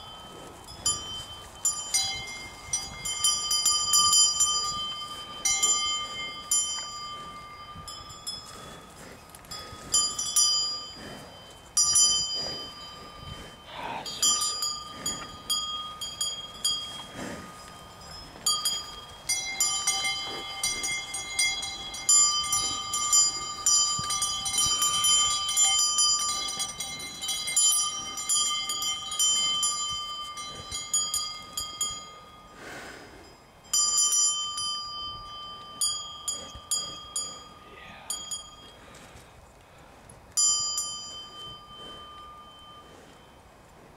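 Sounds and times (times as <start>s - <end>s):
cowbells clanking: 0.0s - 39.2s, 40.3s - 43.5s
lower-pitched cowbell: 0.0s - 39.2s, 40.3s - 43.9s.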